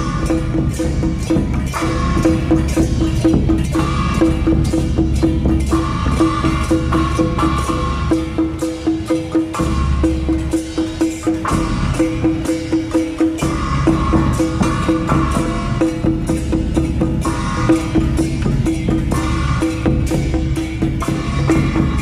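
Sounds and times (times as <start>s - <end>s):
clanging gongs and cymbals: 0.0s - 22.0s
drums beaten with sticks: 0.0s - 22.0s.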